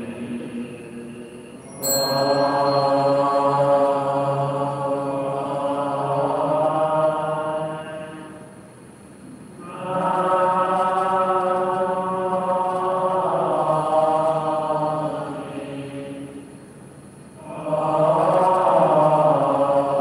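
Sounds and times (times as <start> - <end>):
devotional chanting in held notes: 0.0 - 20.0.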